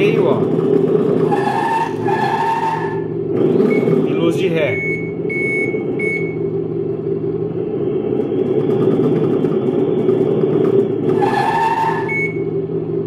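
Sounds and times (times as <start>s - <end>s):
simulated truck engine idling: 0.0s - 13.0s.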